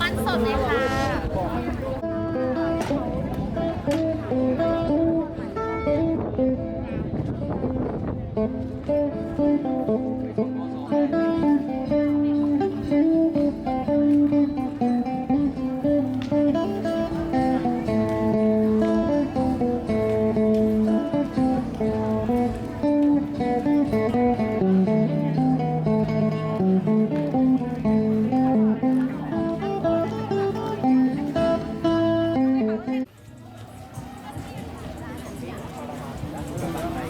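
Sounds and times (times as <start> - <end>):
plucked guitar melody: 0.0 - 37.0.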